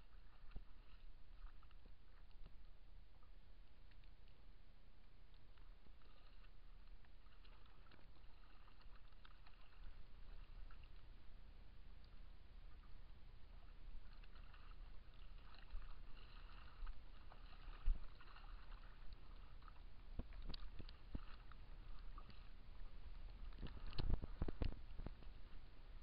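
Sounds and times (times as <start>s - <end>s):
water lapping against boat: 0.0s - 26.0s.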